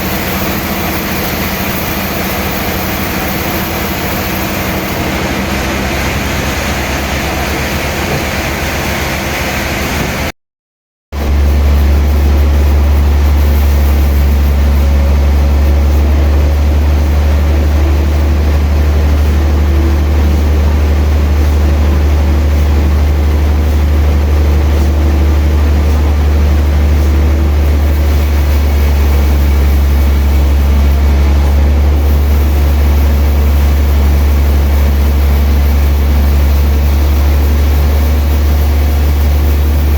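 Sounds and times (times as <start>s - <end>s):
sawmill machinery humming: 0.0s - 10.3s, 11.2s - 39.9s.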